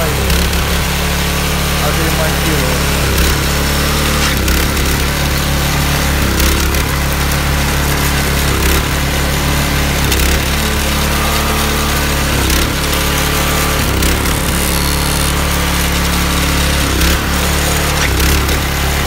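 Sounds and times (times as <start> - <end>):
snow blower engine running: 0.0 - 19.0.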